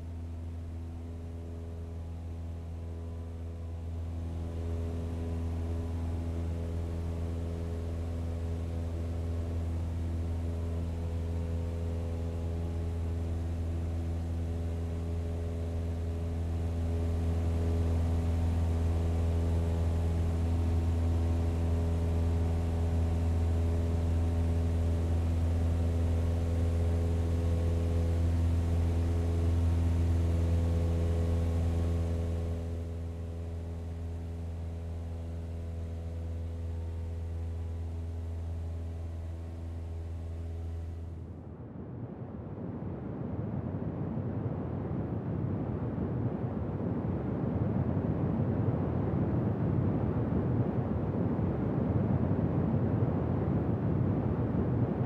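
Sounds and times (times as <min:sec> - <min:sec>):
jet engines at taxi power: 0:00.0 - 0:55.0.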